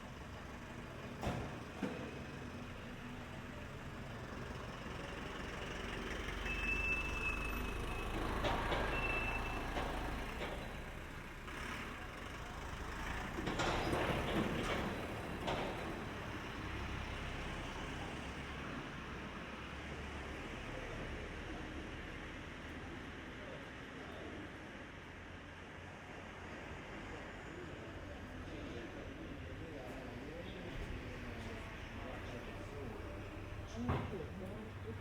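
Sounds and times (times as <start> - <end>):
vehicle engine rumbling: 0.0 - 23.1, 26.5 - 35.0.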